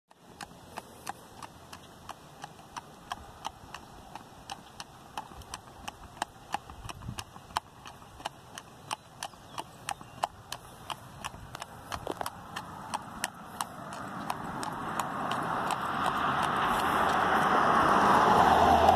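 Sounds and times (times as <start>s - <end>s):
horse hooves clip-clopping on asphalt: 0.1s - 18.9s
rushing road noise: 0.1s - 18.9s.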